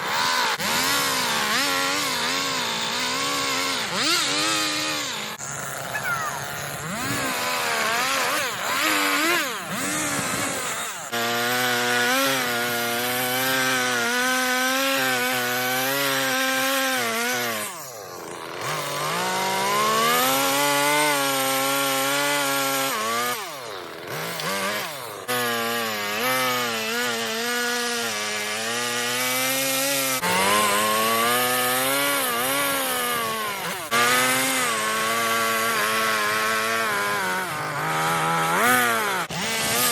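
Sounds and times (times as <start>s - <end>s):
chainsaw carving wood: 0.0s - 39.9s.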